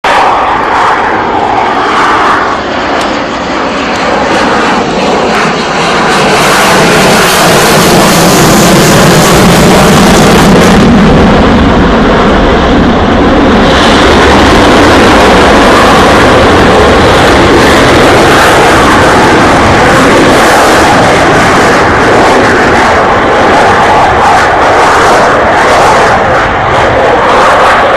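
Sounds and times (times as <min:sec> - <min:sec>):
jet engine roaring: 0:00.0 - 0:27.9.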